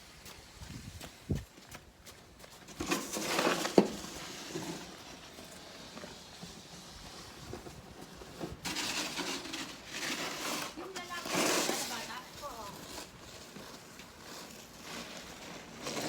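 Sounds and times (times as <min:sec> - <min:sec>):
snow shovel scraping snow: 0:02.6 - 0:16.0.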